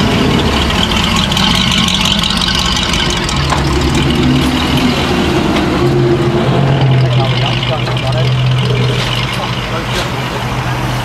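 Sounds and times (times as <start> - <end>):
car engines humming at low revs: 0.0 - 11.0.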